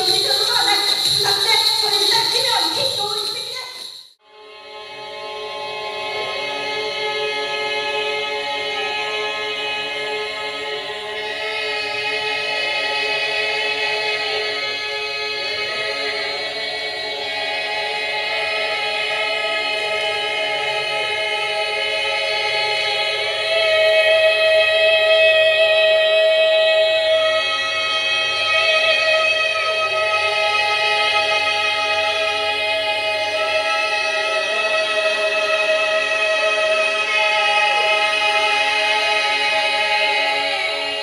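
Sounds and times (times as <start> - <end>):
choir singing dense chord: 4.2 - 41.0.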